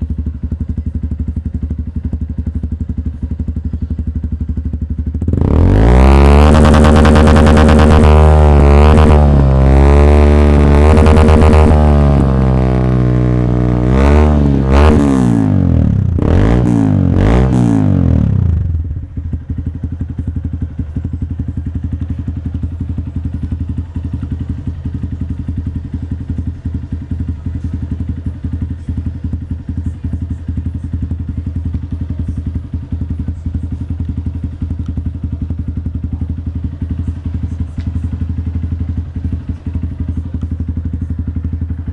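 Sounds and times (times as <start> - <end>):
motorcycle engine revving and idling: 0.0 - 41.9.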